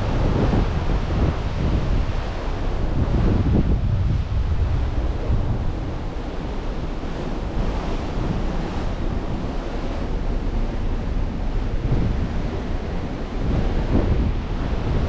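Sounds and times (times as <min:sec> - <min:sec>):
sea water churning along hull: 0:00.0 - 0:15.0
wind buffeting microphone: 0:00.0 - 0:15.0.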